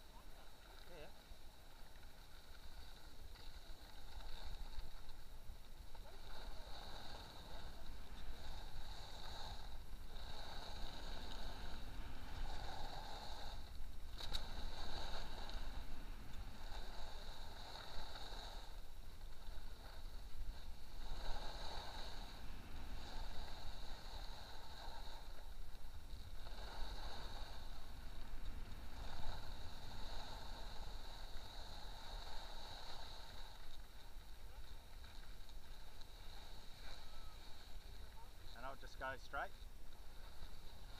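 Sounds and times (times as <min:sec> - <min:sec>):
skis scraping on snow: 0:00.0 - 0:40.9.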